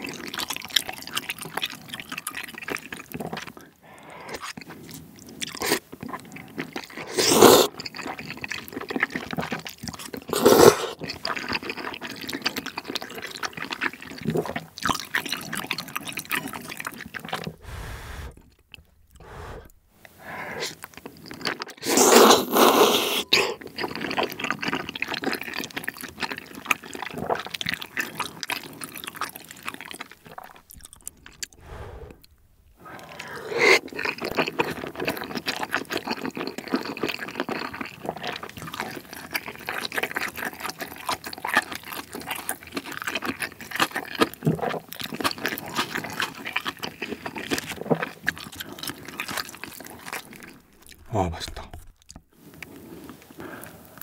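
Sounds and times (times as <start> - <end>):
chewing and mouth smacking: 0.0 - 54.0
wet slurping: 0.0 - 54.0.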